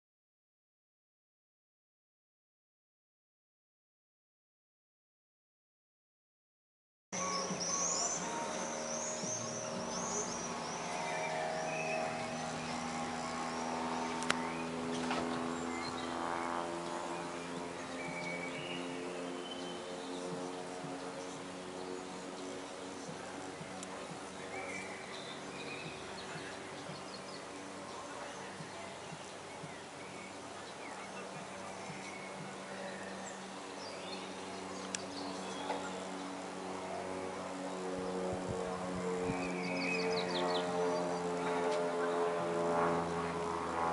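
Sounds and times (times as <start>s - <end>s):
birds chirping: 7.2s - 43.6s
propeller plane droning: 7.2s - 43.9s.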